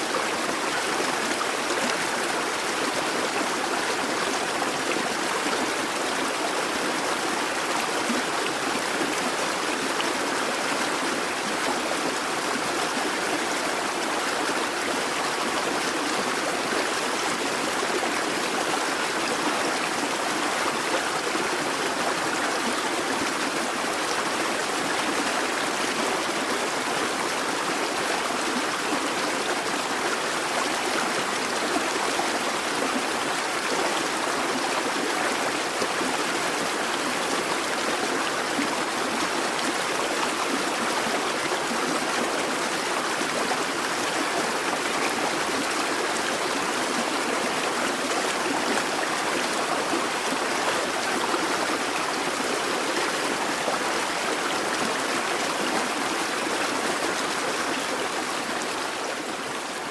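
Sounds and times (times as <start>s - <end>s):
brook babbling over stones: 0.0s - 59.9s.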